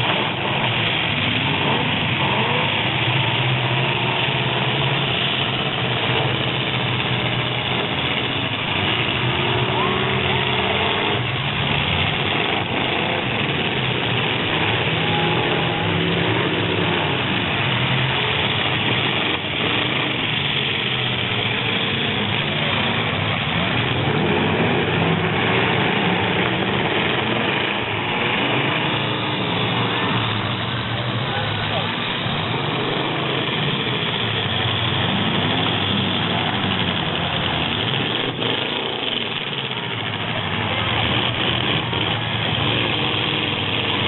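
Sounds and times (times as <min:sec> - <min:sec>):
background voices: 0:00.0 - 0:44.0
truck engines revving: 0:00.0 - 0:44.0.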